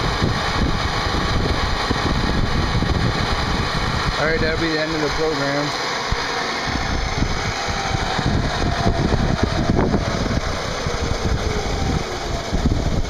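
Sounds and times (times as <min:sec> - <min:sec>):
fan noise: 0:00.0 - 0:13.0
milling machine rumbling: 0:00.0 - 0:13.0.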